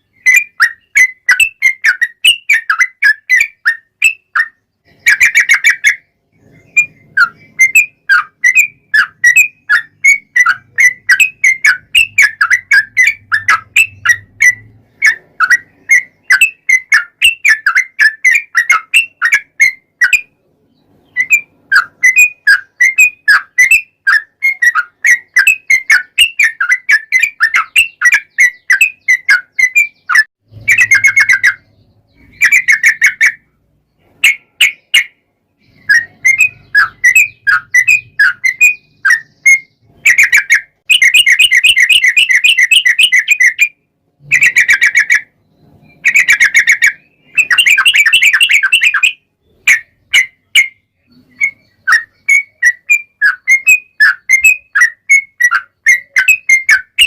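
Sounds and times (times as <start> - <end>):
bird chirping and trilling: 0.0 - 57.0.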